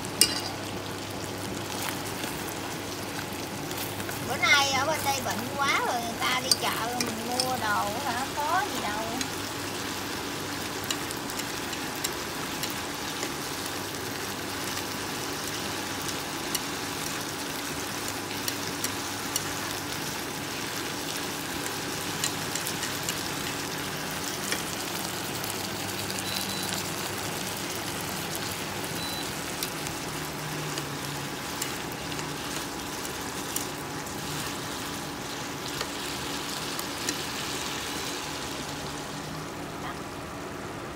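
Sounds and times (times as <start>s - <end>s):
food sizzling in a pan: 0.0s - 40.6s.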